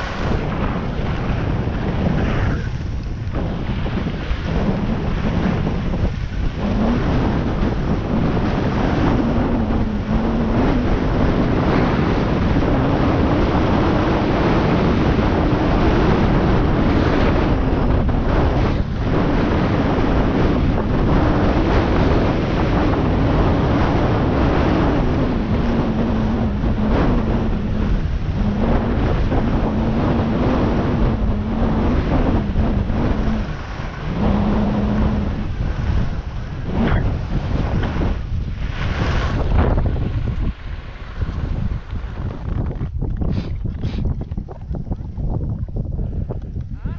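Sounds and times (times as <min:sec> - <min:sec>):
engine running: 0:00.0 - 0:42.6
wind buffeting microphone: 0:00.0 - 0:46.9.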